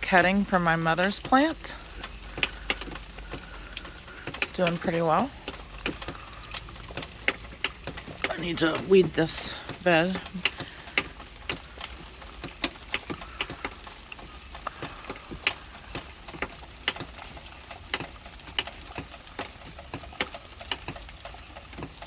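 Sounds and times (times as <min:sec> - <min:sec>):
raindrops tapping: 0:00.0 - 0:22.0
soft rain hiss: 0:00.0 - 0:22.0.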